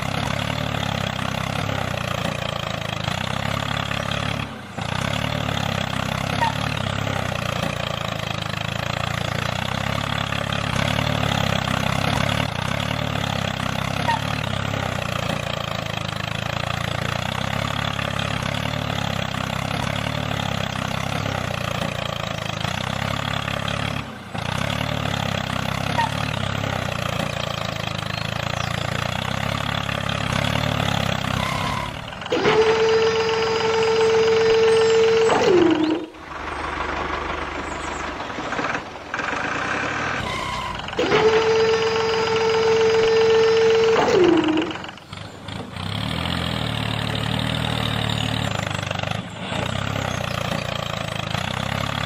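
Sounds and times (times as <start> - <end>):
tractor engine chugging: 0.0 - 52.0.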